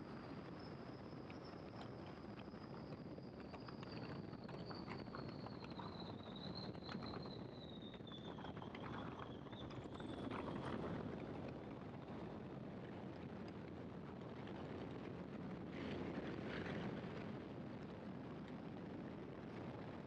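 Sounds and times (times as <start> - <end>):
wind noise: 0.0 - 20.0.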